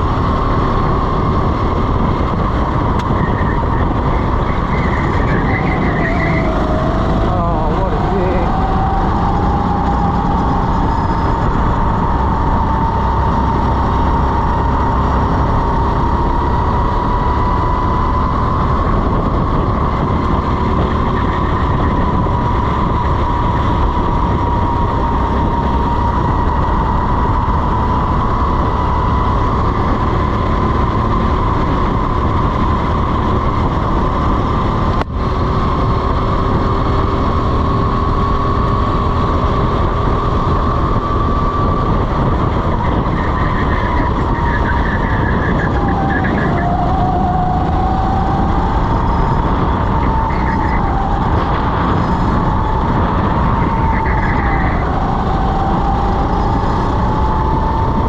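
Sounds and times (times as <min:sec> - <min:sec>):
kart engine at high revs: 0:00.0 - 0:58.0
wind rumble on microphone: 0:00.0 - 0:58.0.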